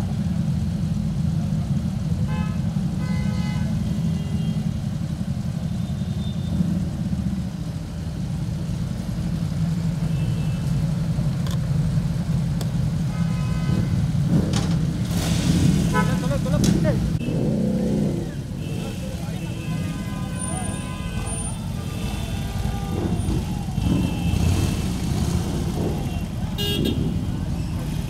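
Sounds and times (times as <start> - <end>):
motorcycles idling: 0.0 - 28.0.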